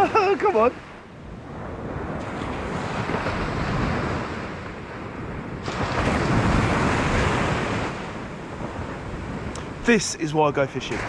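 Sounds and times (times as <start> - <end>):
sea waves breaking on beach: 0.0 - 11.0
wind buffeting microphone: 0.0 - 11.0.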